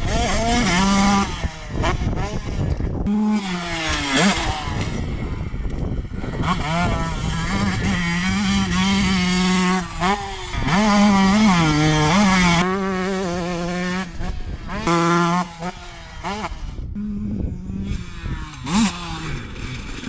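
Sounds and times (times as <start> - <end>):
two-stroke engine revving: 0.0 - 20.0
wind noise on microphone: 0.0 - 20.0.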